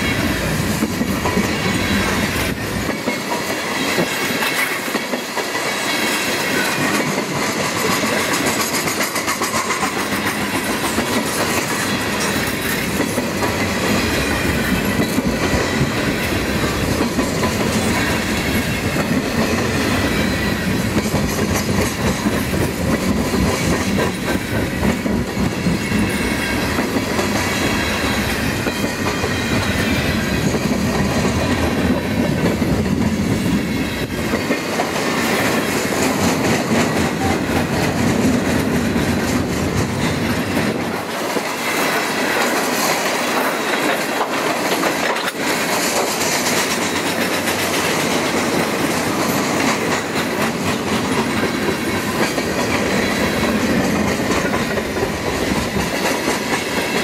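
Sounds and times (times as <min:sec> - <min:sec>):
freight train rumbling past: 0:00.0 - 0:57.0
steel wheels clattering over rail joints: 0:00.0 - 0:57.0.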